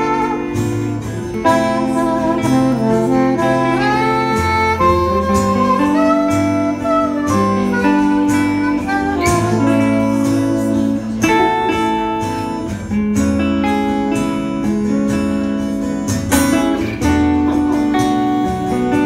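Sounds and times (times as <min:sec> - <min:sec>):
acoustic guitar chords: 0:00.0 - 0:19.0
electric guitar chords: 0:00.0 - 0:19.0.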